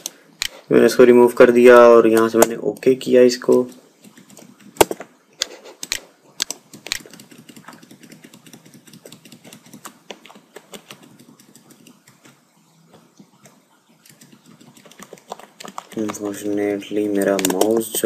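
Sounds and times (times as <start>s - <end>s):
computer mouse clicking: 2.1s - 18.0s.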